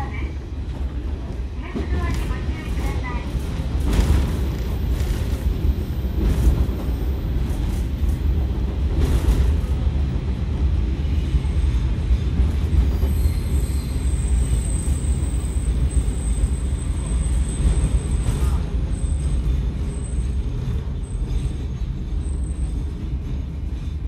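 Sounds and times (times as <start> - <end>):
railcar engine and wheels rumble: 0.0 - 24.0.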